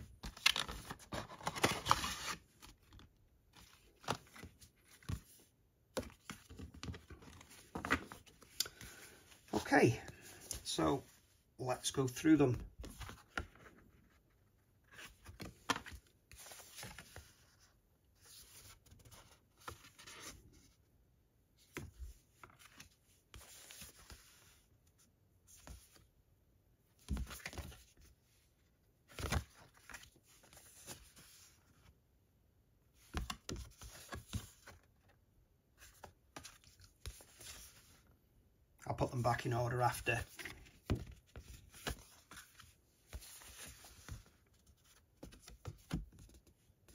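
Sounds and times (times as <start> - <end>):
cards rustling and sliding: 0.0 - 11.0, 12.2 - 20.8, 21.6 - 24.7, 27.0 - 28.1, 29.0 - 31.9, 33.0 - 35.2, 35.8 - 38.1, 39.4 - 46.9.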